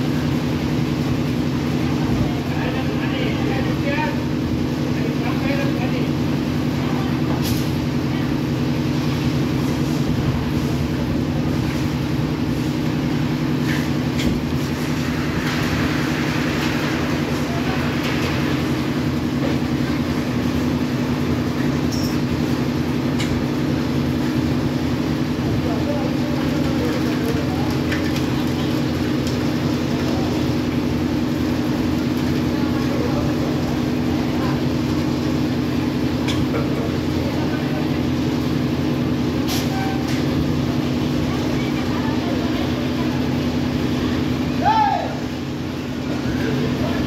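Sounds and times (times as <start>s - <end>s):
concrete mixer running: 0.0s - 47.0s.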